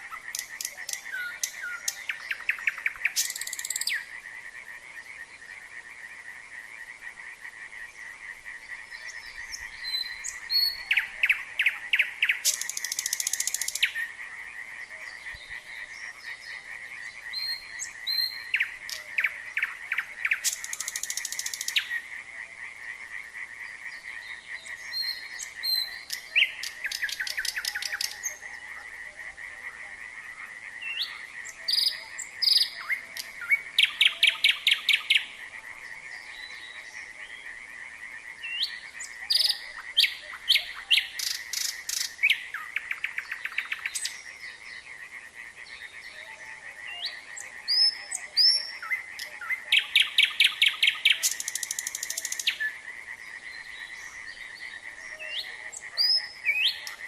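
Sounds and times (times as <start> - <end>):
nightingale singing: 0.0 - 5.7, 6.9 - 57.0
frog chorus: 0.0 - 57.0.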